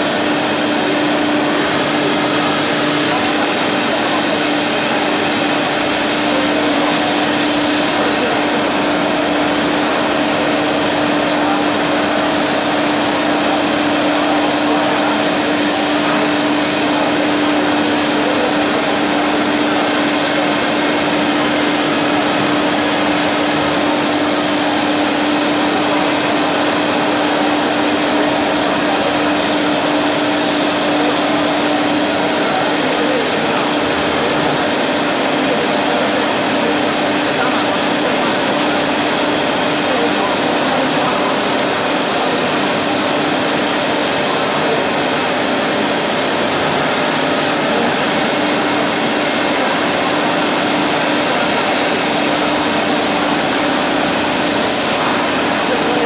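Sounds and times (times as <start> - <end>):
wood router machine humming: 0.0 - 56.0.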